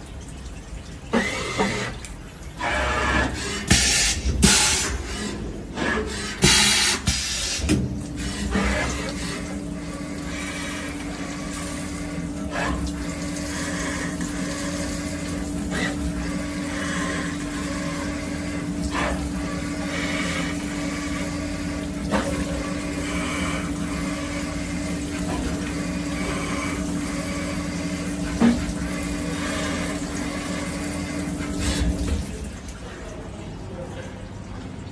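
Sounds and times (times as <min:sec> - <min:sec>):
coolant splashing and streaming: 0:00.0 - 0:34.9.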